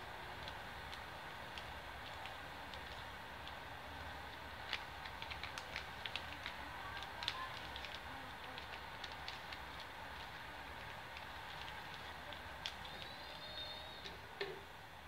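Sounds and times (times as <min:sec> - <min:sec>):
steady low hiss: 0:00.0 - 0:15.0
paper crackling and rustling: 0:00.3 - 0:13.3.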